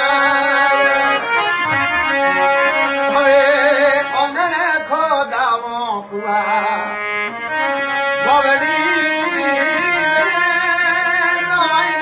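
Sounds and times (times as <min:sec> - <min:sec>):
held instrumental drone: 0:00.0 - 0:05.0, 0:06.4 - 0:12.0.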